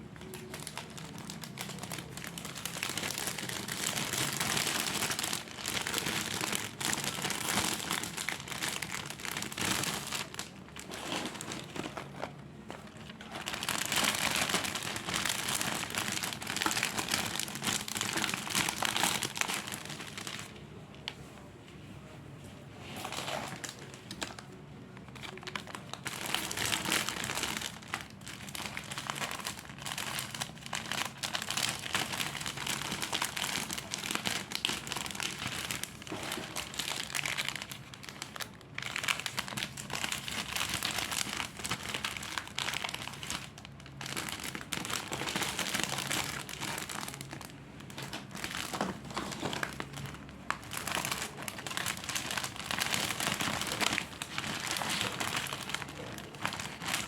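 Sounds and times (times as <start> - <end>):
plastic wrappers crinkling: 0.0 - 21.2, 22.8 - 57.0.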